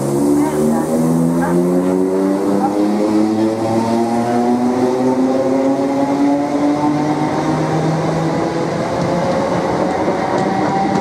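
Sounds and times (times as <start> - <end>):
train traction motor whine: 0.0 - 11.0
train wheels rumbling on rails: 0.0 - 11.0.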